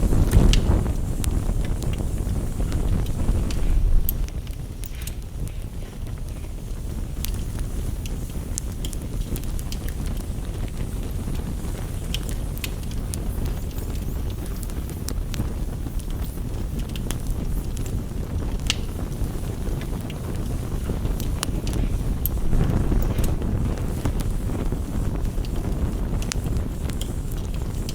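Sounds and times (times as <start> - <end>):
campfire crackling and popping: 0.0 - 27.9.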